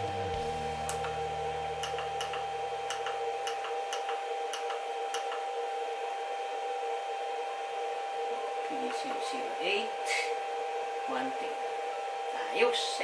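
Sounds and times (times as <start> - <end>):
low hum: 0.0 - 13.0
steady high whine: 0.0 - 13.0.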